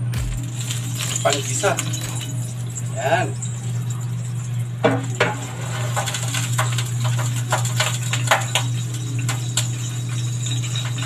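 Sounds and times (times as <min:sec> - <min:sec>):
oil crackling in a wok: 0:00.0 - 0:11.0
washing machine hum: 0:00.0 - 0:11.0.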